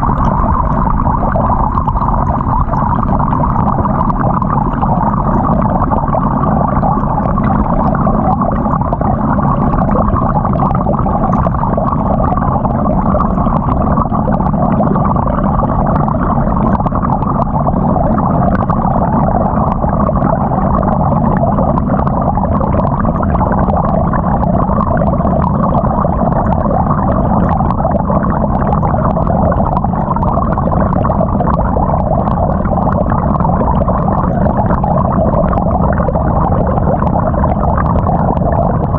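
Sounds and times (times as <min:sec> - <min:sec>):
washing machine water churning: 0:00.0 - 0:38.9.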